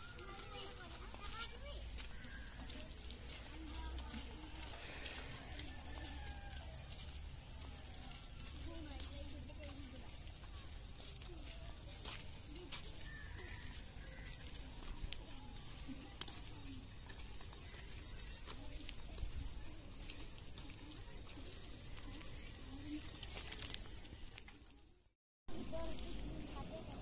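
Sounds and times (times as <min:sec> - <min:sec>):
faint distant voices: 0:00.0 - 0:27.0.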